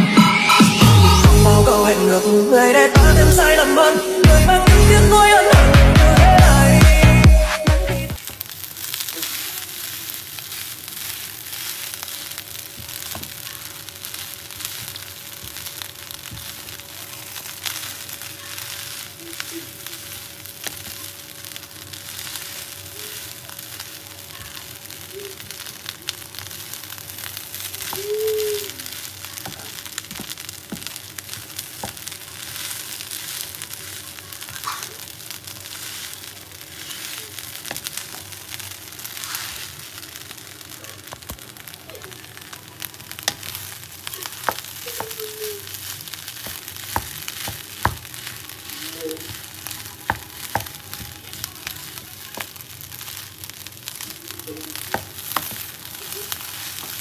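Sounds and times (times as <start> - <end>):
rice sizzling in frying pan: 8.2 - 57.0.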